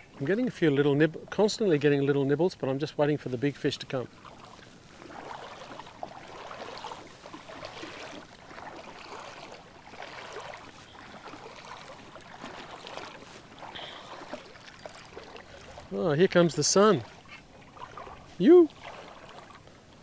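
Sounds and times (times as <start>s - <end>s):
footsteps wading through water: 3.2s - 20.0s.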